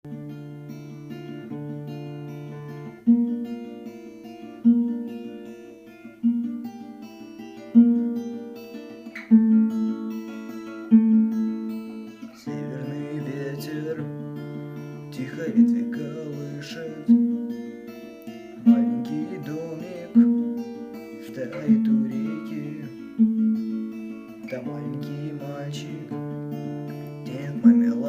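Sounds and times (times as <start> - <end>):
acoustic guitar chords: 0.0 - 28.0.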